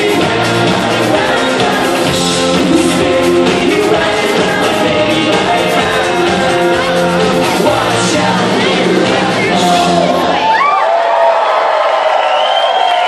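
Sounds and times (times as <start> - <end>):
electric guitars: 0.0 - 10.6
person singing: 0.0 - 10.6
drums: 0.0 - 10.7.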